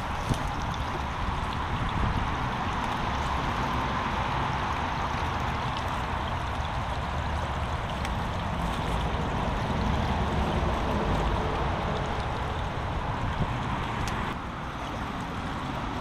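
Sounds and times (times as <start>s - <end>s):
brook rushing and gurgling: 0.0s - 16.0s.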